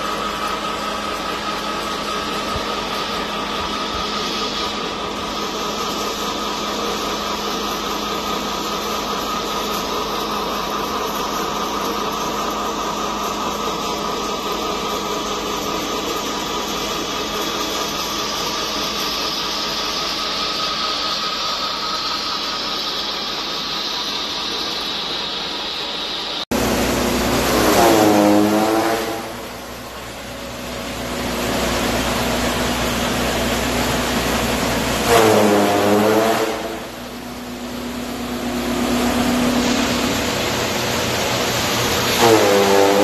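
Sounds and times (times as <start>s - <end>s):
pellet mill droning: 0.0s - 43.0s.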